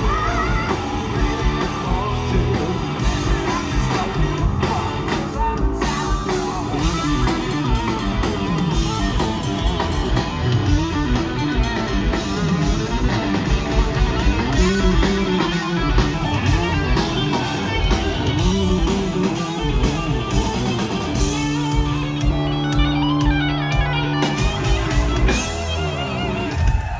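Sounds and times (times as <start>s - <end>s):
live rock band playing: 0.0s - 26.9s.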